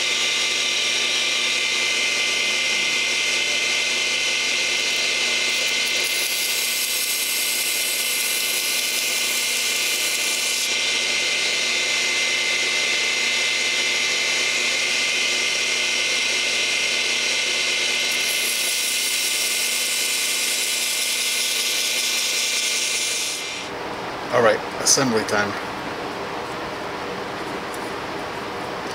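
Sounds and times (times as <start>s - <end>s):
rotary tool whining and grinding: 0.0s - 23.8s.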